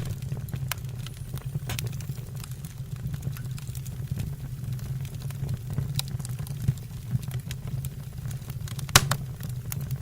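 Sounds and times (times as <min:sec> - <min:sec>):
fire flames rumbling: 0:00.0 - 0:10.0
logs crackling and popping: 0:00.0 - 0:10.0.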